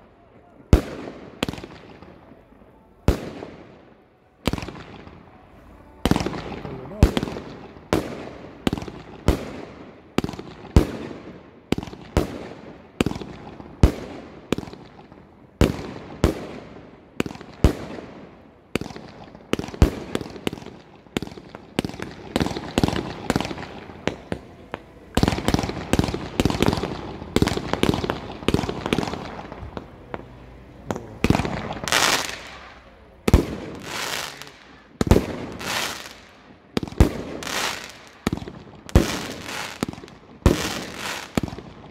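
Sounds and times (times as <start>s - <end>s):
fireworks crackling: 0.0s - 41.9s
fireworks bangs: 3.0s - 41.9s.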